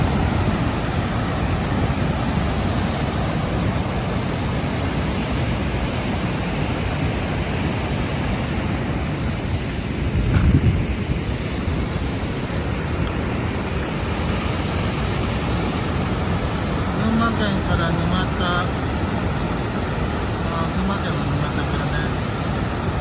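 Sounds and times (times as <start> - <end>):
waterfall rushing over rock: 0.0 - 23.0.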